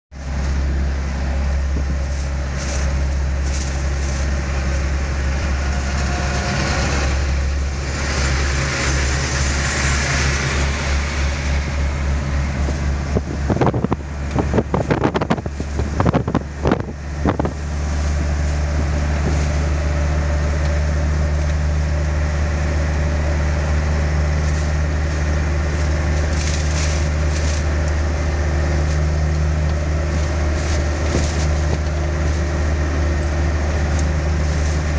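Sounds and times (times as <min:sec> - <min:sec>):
road noise: 0:00.1 - 0:34.9
vehicle engine drone: 0:00.1 - 0:34.9.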